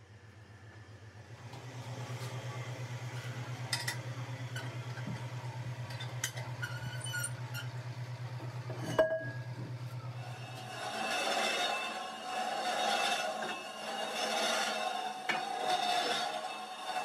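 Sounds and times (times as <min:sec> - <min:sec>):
factory machine pulsing hum: 0:00.0 - 0:17.0.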